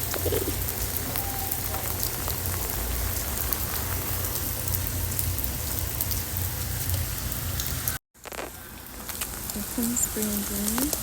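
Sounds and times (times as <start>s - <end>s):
heavy rain pouring: 0.0s - 11.0s
raindrops ticking close by: 0.0s - 11.0s.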